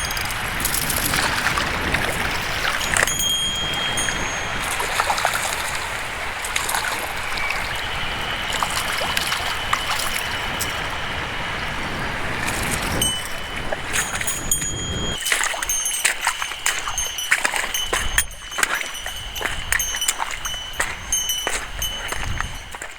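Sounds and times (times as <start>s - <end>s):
stream rushing over rocks: 0.0s - 22.9s.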